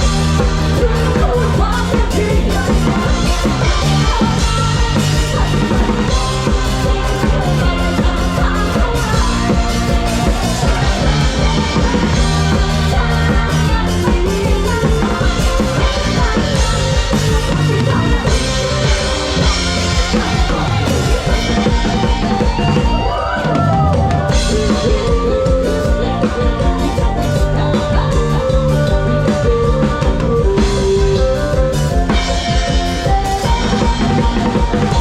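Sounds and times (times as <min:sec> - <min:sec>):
drum kit beat: 0:00.0 - 0:35.0
live band playing: 0:00.0 - 0:35.0.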